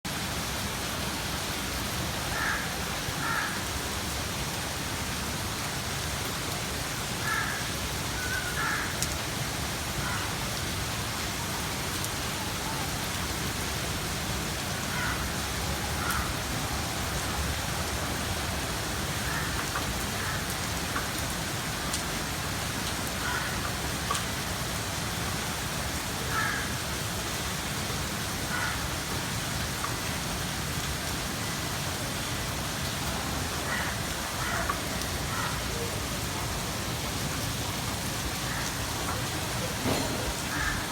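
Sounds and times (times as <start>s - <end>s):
rain pattering on surfaces: 0.1s - 40.9s.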